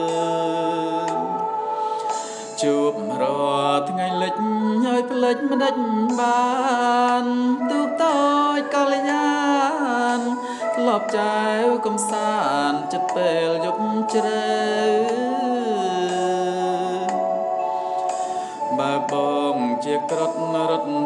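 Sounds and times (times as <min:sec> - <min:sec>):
man singing slow melody: 0:00.0 - 0:21.0.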